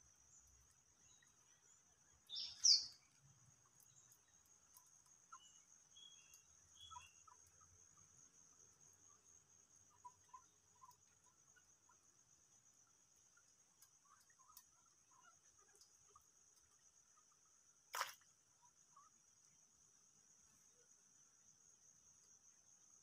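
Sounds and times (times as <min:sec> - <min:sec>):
insects droning: 0:00.0 - 0:23.0
soft chirps: 0:00.0 - 0:23.0.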